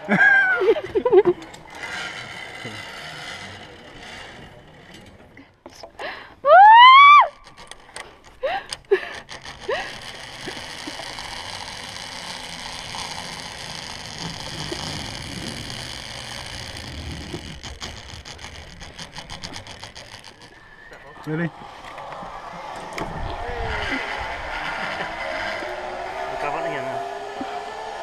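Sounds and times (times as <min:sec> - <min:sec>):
zip wire trolley whirring: 0:00.0 - 0:05.6, 0:06.4 - 0:28.0.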